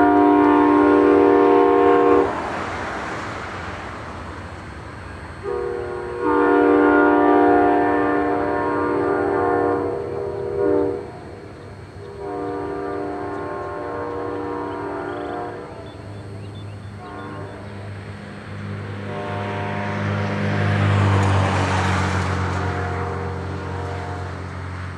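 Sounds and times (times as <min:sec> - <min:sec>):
train horn blasts: 0:00.0 - 0:02.5, 0:05.4 - 0:18.0, 0:18.8 - 0:24.9.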